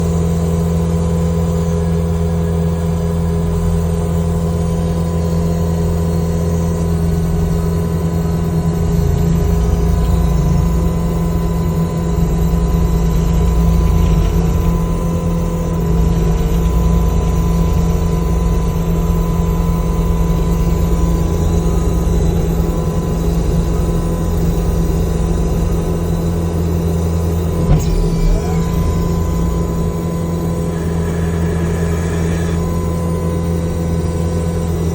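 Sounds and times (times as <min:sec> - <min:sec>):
loader engine running: 0:00.0 - 0:34.9
stump grinder high whine: 0:00.0 - 0:34.9.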